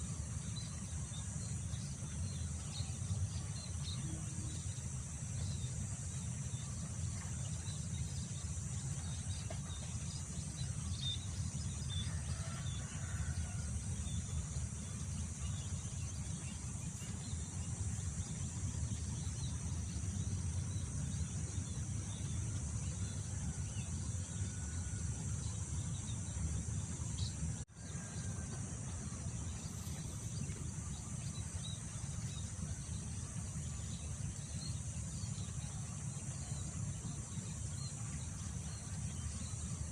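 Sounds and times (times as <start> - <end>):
crickets droning: 0.0 - 39.9.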